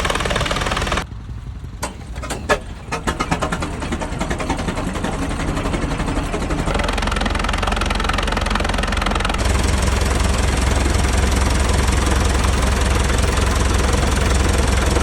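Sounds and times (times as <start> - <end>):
tractor engine exhaust beats: 0.0 - 15.0.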